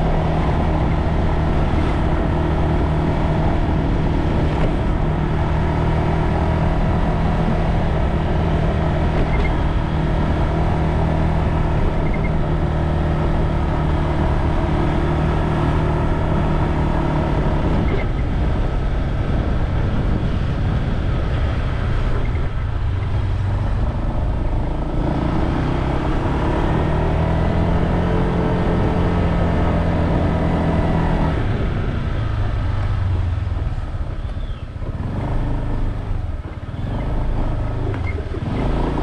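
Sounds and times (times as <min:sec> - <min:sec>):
motor vehicle engine hum: 0:00.0 - 0:39.0
wind rumbling on microphone: 0:00.0 - 0:39.0.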